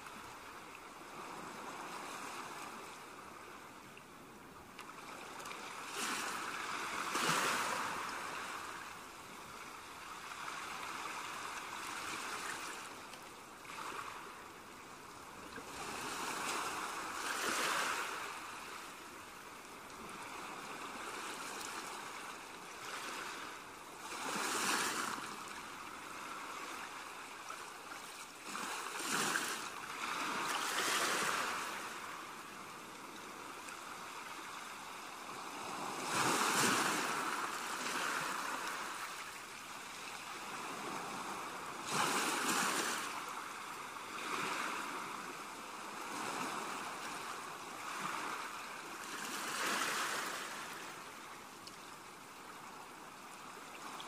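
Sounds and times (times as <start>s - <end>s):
small waves breaking on sand: 0.0s - 3.9s, 4.5s - 54.0s.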